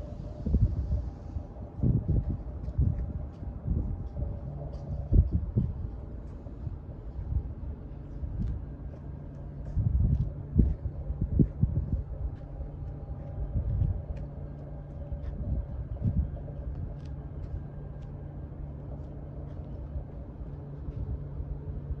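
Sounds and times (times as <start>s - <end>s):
constant hum: 0.0s - 22.0s
steady low rumble: 0.0s - 22.0s.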